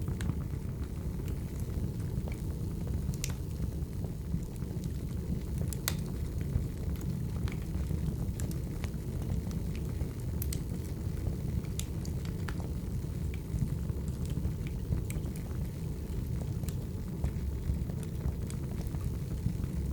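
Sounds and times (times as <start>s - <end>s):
fire crackles and pops: 0.0s - 19.9s
wood fire rumbling: 0.0s - 19.9s.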